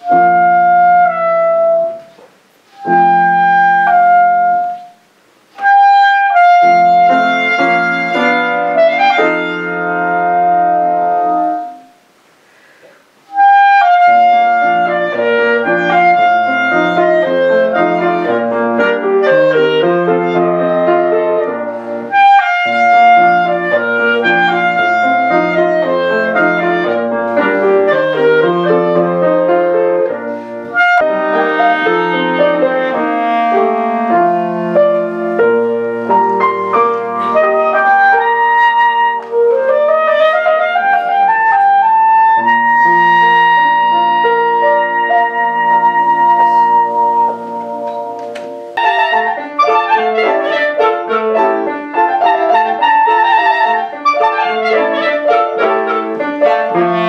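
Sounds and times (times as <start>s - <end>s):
clarinet melody: 0.0s - 12.1s, 13.2s - 57.0s
piano chords: 0.0s - 12.2s, 12.8s - 57.0s.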